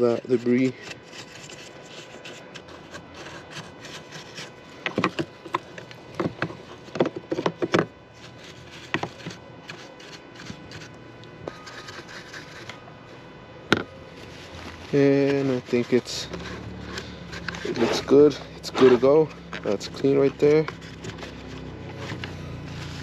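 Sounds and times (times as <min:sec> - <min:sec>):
brush scrubbing: 0:00.3 - 0:05.7, 0:08.2 - 0:12.8, 0:14.1 - 0:23.0.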